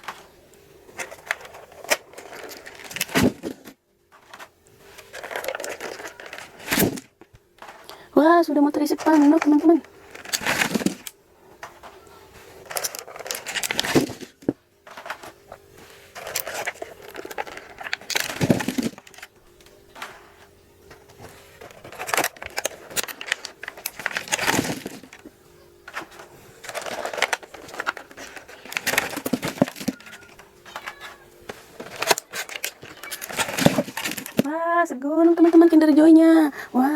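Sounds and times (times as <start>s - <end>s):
wrapped eggs rustling and knocking: 0.0s - 8.0s, 8.6s - 34.6s.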